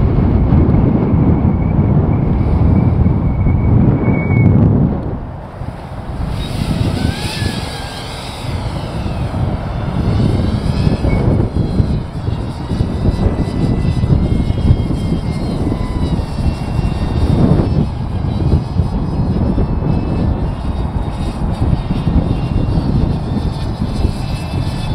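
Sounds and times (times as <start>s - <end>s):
model plane motor whine: 0.0s - 24.9s
wind rumble on microphone: 0.0s - 24.9s.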